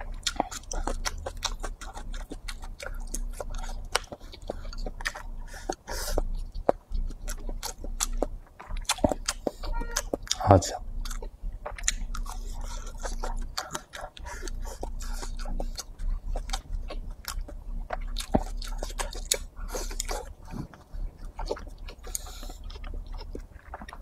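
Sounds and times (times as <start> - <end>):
close chewing with mouth clicks: 0.0 - 24.0.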